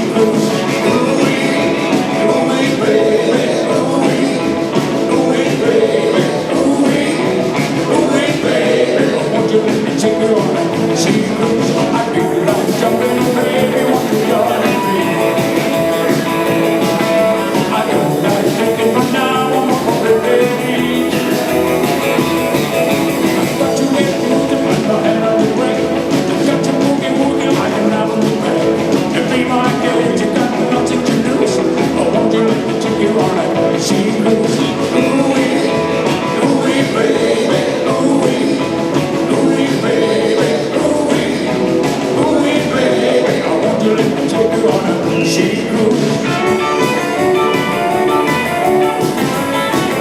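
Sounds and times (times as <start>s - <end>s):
guitar: 0.0s - 50.0s
person singing: 0.0s - 50.0s
rock and roll band playing: 0.0s - 50.0s.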